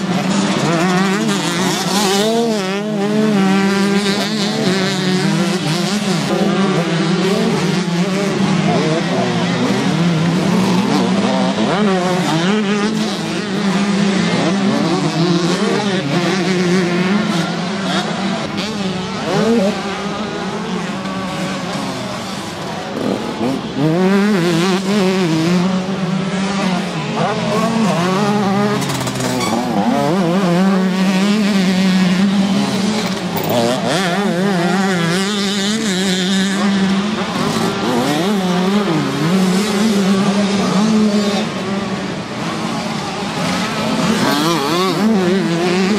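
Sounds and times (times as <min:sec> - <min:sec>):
drone of distant bikes: 0:00.0 - 0:45.9
motocross bike engines revving: 0:00.0 - 0:45.9.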